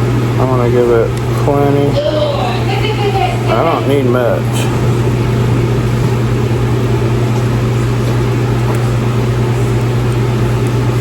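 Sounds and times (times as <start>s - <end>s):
machine humming: 0.0s - 11.0s
machine whirring: 0.0s - 11.0s.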